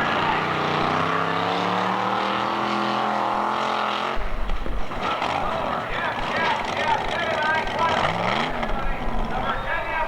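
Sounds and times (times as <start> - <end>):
monster truck engine revving: 0.0 - 9.6.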